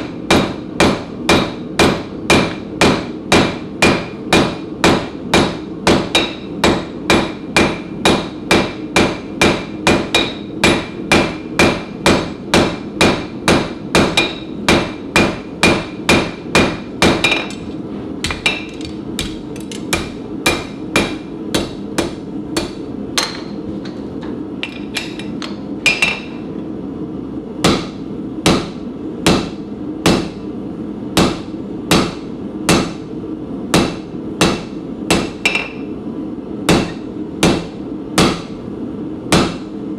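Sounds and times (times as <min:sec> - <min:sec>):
hammer striking metal on anvil: 0:00.3 - 0:23.6, 0:24.6 - 0:26.4, 0:27.6 - 0:30.4, 0:31.2 - 0:33.0, 0:33.8 - 0:35.9, 0:36.7 - 0:38.5, 0:39.3 - 0:39.6.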